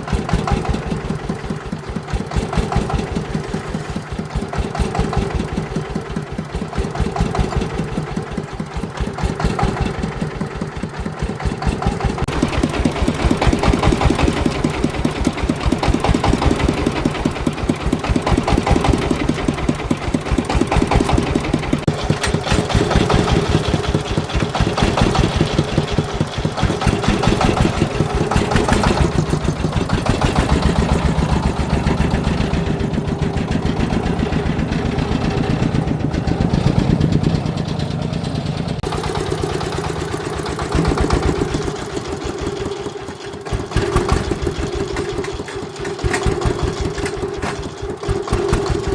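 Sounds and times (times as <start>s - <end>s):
farm vehicle engine pulsing: 0.0s - 48.9s.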